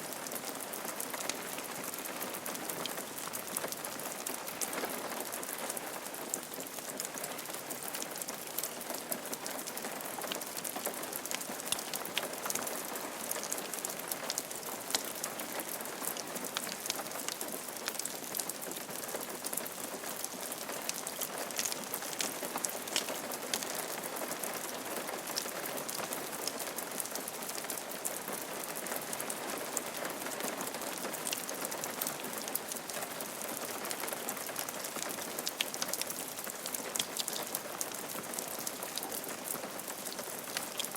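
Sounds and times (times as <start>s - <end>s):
rain pattering on a roof: 0.0s - 40.9s.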